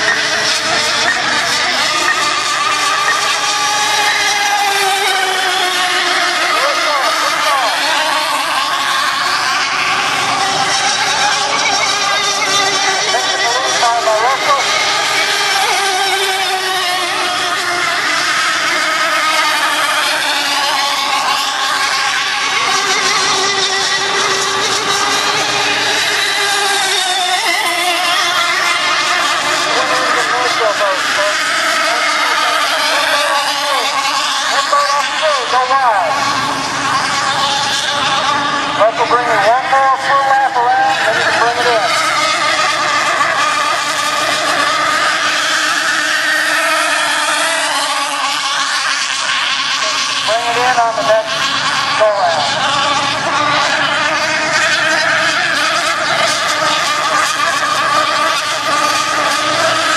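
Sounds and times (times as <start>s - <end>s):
racing boat engines whining: 0.0s - 59.9s.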